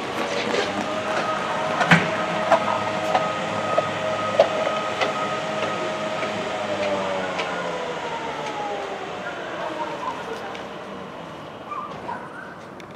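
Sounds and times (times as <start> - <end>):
electric lure mechanical whine: 0.0 - 12.9.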